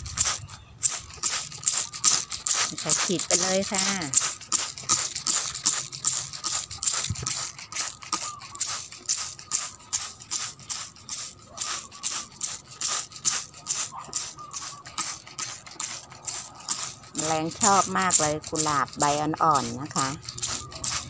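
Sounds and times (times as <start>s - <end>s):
spray bottle squirts: 0.0s - 21.0s.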